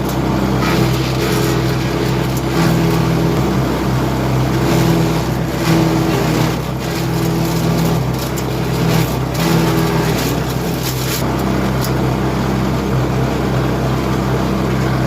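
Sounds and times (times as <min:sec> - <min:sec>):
wood chipper drone: 0:00.0 - 0:15.0.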